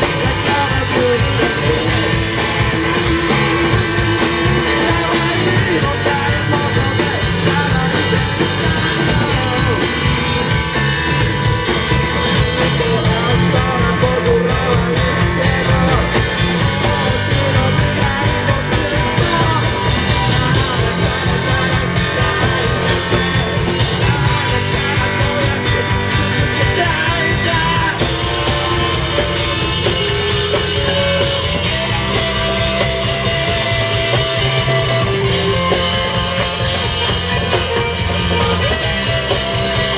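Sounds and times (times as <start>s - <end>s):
bass guitar: 0.0s - 39.9s
drum kit: 0.0s - 39.9s
electric guitars: 0.0s - 39.9s
man singing: 0.0s - 39.9s.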